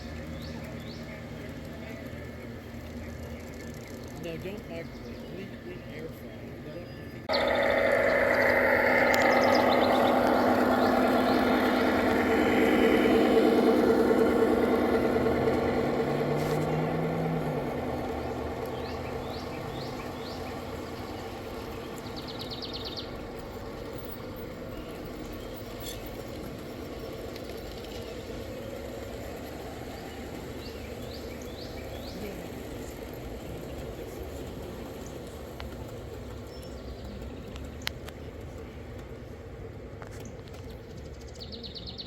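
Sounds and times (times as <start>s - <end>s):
small birds chirping: 0.0s - 17.1s, 17.7s - 38.5s, 40.1s - 42.0s
low mechanical hum: 0.0s - 41.9s.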